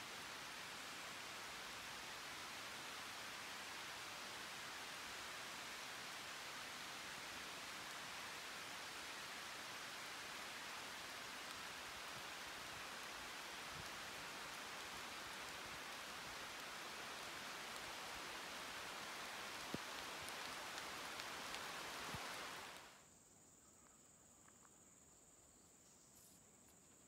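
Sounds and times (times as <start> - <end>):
steady rain falling: 0.0 - 23.1.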